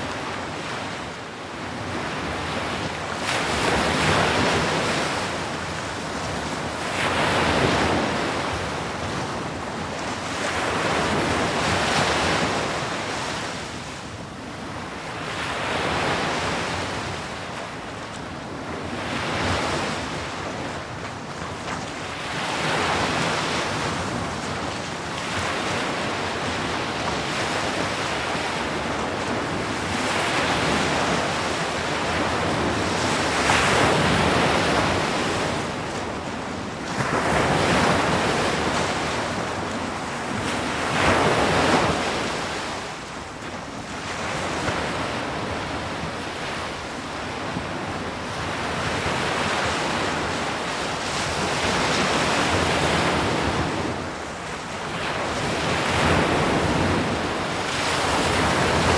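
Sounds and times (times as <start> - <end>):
ocean waves breaking on shore: 0.0 - 58.9
wind on microphone: 0.0 - 58.9.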